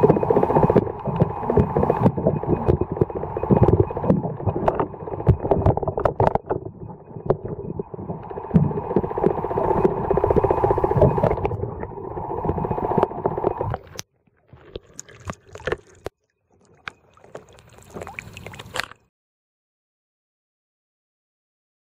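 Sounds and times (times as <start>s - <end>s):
muffled underwater water noise: 0.0s - 19.1s.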